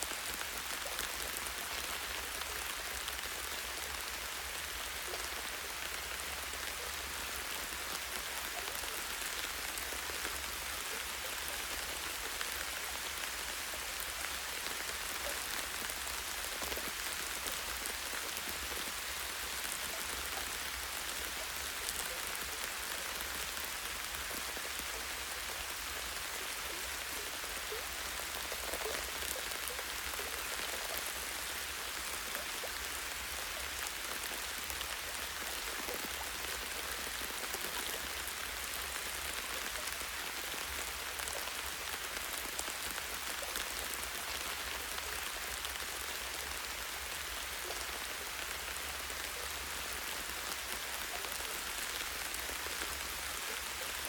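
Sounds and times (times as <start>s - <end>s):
light rain on leaves: 0.0s - 54.0s.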